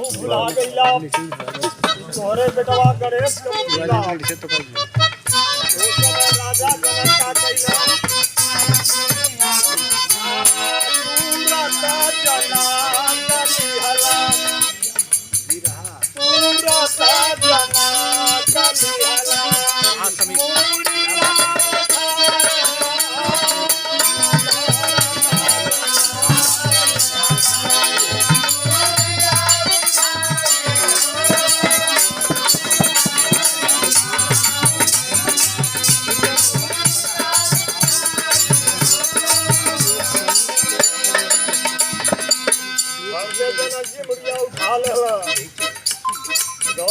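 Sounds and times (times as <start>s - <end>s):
fast jingling percussion: 0.0s - 46.9s
melodic folk music line: 0.0s - 46.9s.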